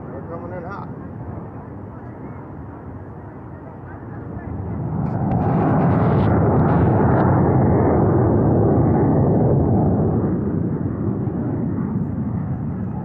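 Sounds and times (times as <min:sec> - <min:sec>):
aircraft engine roar: 0:00.0 - 0:13.0.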